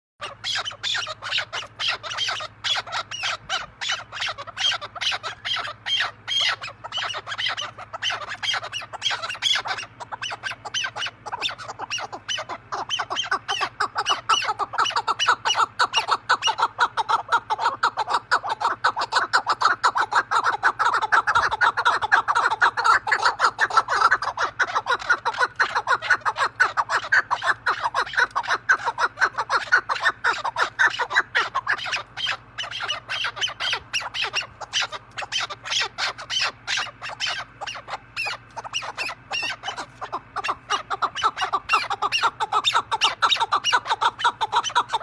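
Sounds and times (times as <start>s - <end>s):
partridge calling: 0.2s - 45.0s.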